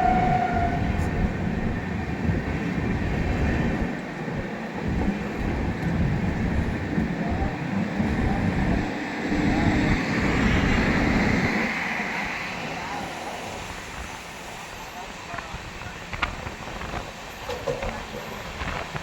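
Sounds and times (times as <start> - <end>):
passenger train rumbling: 0.0 - 19.0.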